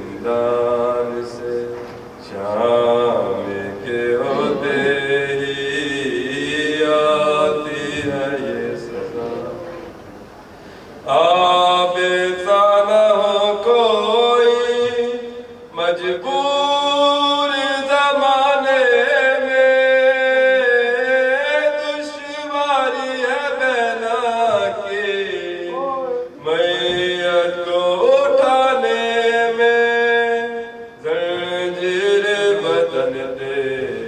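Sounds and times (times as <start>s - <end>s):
man chanting a lament: 0.0s - 9.8s, 11.1s - 34.0s.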